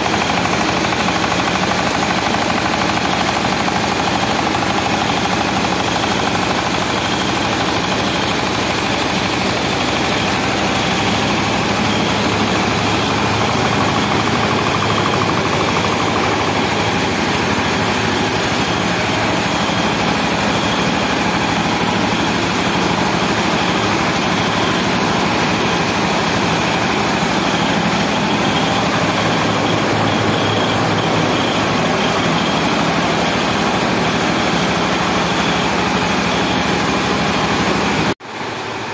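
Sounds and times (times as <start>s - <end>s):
milling machinery droning: 0.0s - 38.8s.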